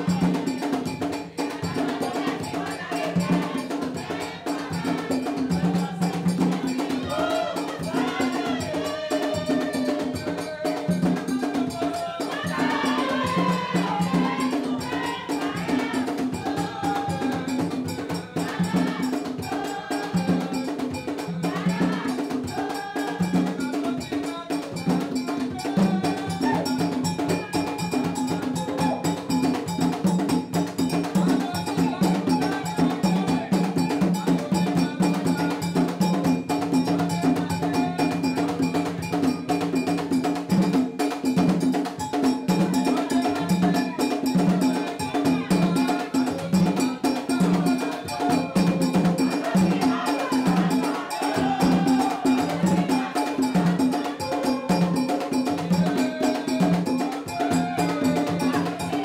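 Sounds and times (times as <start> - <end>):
hand drums: 0.0 - 59.0
voices singing: 0.0 - 59.0.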